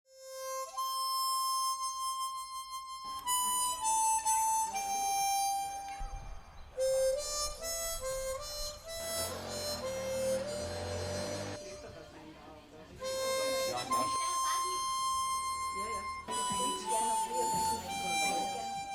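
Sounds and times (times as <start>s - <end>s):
slow wind instrument melody: 0.1s - 12.1s, 13.0s - 18.9s.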